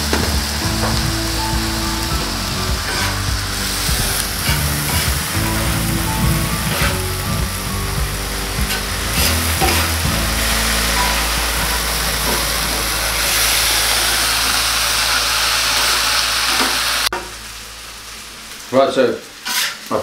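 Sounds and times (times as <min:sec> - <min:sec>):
meat sizzling on griddle: 0:00.0 - 0:20.0
metal spatula scraping griddle: 0:00.1 - 0:07.9, 0:08.5 - 0:16.8, 0:19.4 - 0:20.0.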